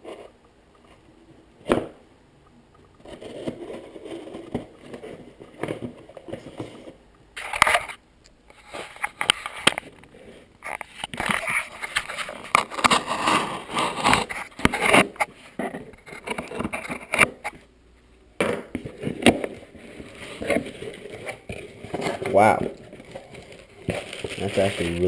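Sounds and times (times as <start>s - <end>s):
packaging rustling and scraping: 3.0s - 17.7s, 18.6s - 25.0s.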